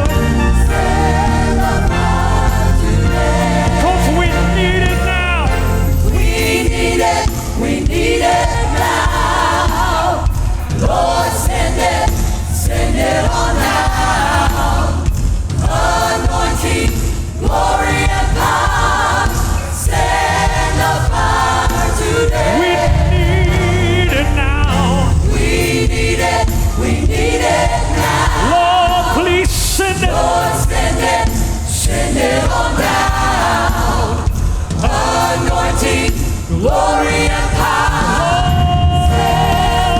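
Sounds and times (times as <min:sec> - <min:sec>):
bass and drums: 0:00.0 - 0:39.9
choir singing: 0:00.0 - 0:39.9.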